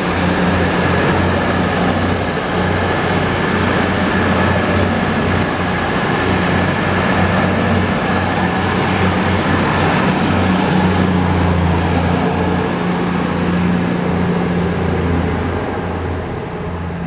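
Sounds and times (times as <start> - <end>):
diesel train engines droning: 0.0 - 17.0.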